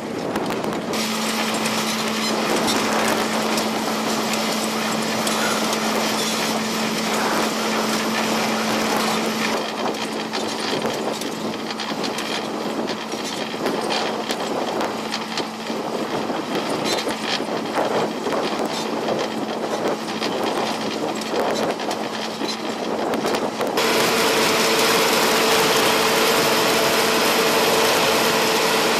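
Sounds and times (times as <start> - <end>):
diesel engine under load: 0.0 - 28.9
trencher crackling and scraping ground: 0.0 - 28.9.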